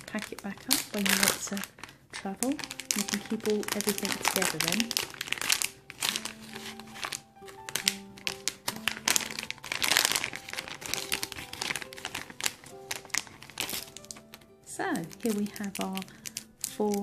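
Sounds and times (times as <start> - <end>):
foil and plastic crinkling: 0.0 - 17.0
soft background music: 0.0 - 17.0.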